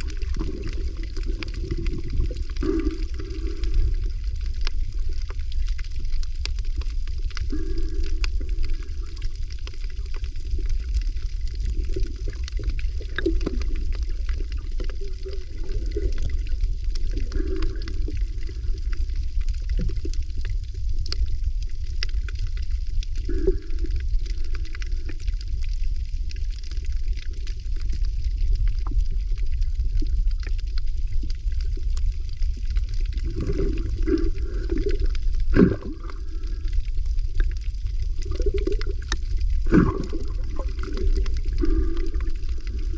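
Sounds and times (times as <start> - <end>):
faint clicks: 0.0 - 42.9
steady low rumble: 0.0 - 42.9
water gurgling: 0.0 - 42.9.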